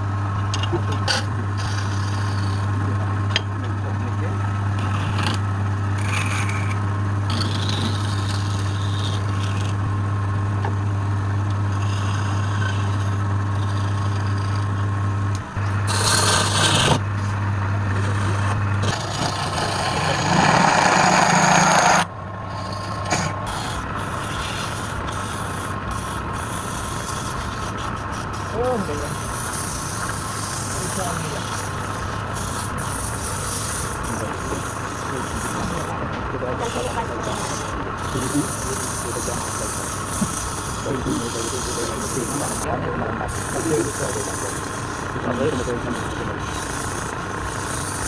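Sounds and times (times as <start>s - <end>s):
lathe motor hum: 0.0s - 48.0s
tool rasping on spinning wood: 0.9s - 10.0s, 11.0s - 48.0s.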